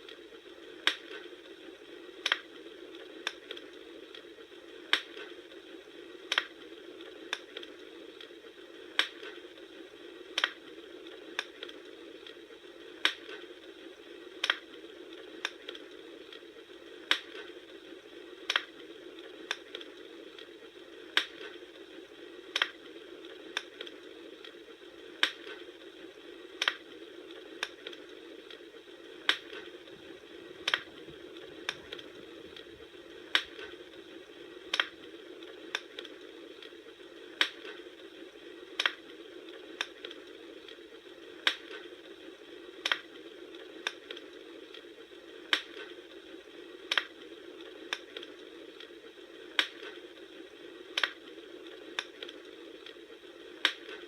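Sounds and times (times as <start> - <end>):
bonfire crackling: 0.0 - 54.0.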